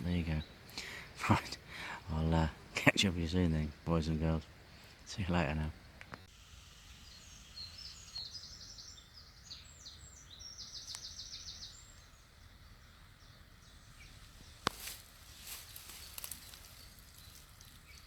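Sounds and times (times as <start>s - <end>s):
songbird singing with trill: 0.0s - 6.3s, 7.0s - 18.0s
faint outdoor hiss: 0.0s - 18.0s.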